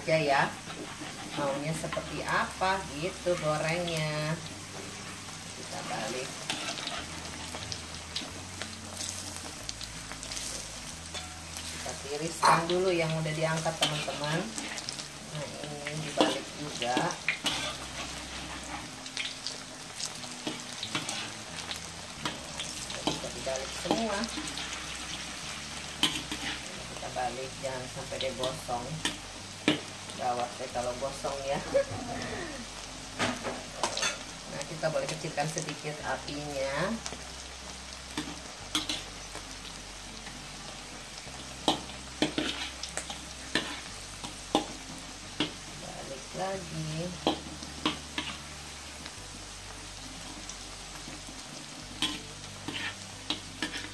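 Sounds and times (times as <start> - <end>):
food deep-frying in oil: 0.0 - 53.9.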